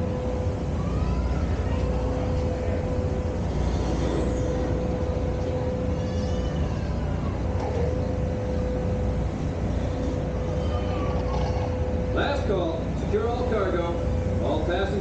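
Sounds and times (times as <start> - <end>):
boat engine rumble: 0.0 - 15.0.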